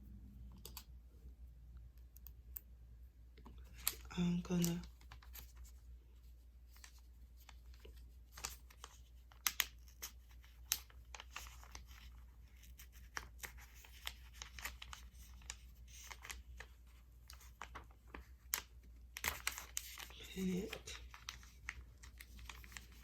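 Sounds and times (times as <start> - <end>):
paper and cloth rustling: 3.7 - 23.0.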